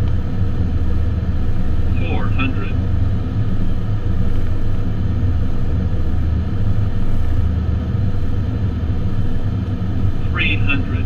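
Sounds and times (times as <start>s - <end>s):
low rumble inside airliner cockpit: 0.0s - 11.0s.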